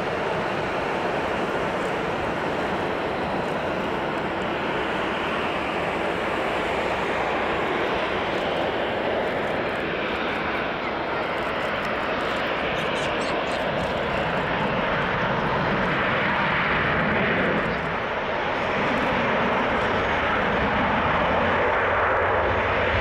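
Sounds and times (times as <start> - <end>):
jet airliner landing: 0.0 - 23.0.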